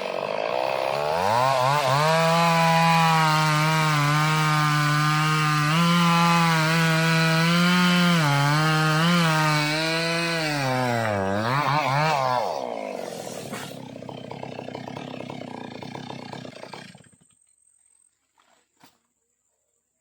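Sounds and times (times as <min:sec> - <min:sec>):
chainsaw cutting wood: 0:00.0 - 0:17.4.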